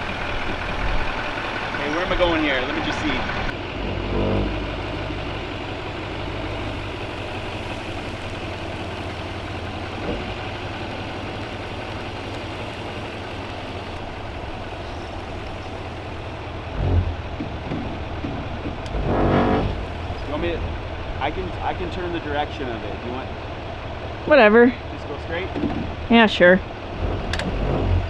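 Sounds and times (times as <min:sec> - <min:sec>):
low bump: 0:00.0 - 0:12.0, 0:14.0 - 0:23.6, 0:25.2 - 0:28.0
diesel truck engine idling: 0:00.0 - 0:28.0.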